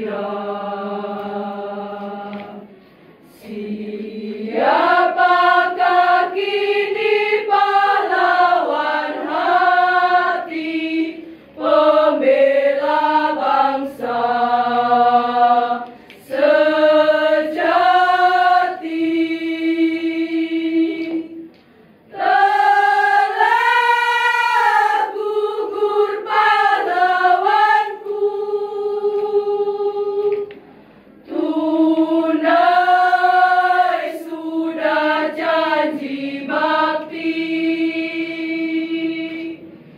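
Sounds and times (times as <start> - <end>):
women's choir singing: 0.0 - 30.6, 31.2 - 39.9.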